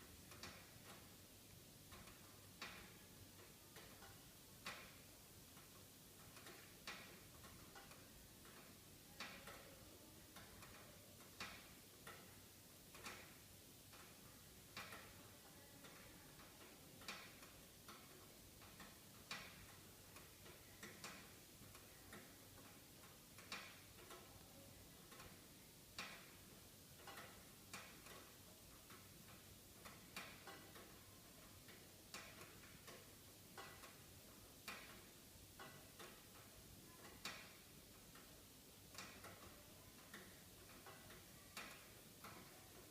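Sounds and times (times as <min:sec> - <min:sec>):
soft steady hiss: 0:00.0 - 0:42.9.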